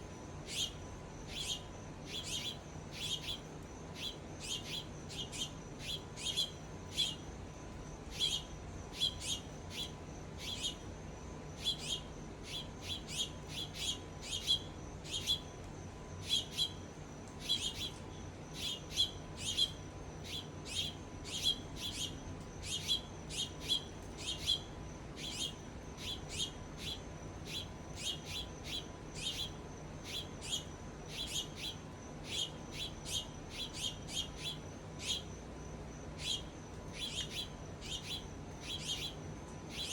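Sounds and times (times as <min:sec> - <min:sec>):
faint steady high whine: 0:00.0 - 0:39.9
songbirds chirping: 0:00.0 - 0:39.9.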